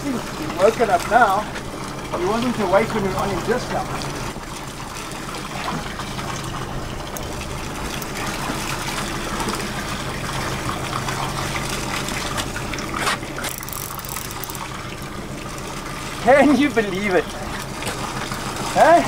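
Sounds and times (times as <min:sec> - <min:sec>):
steady low hum: 0:00.0 - 0:19.0
water splashing against hull: 0:00.0 - 0:19.0.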